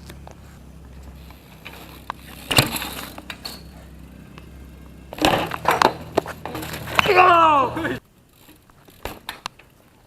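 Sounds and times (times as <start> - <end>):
low steady hum: 0.0 - 9.8.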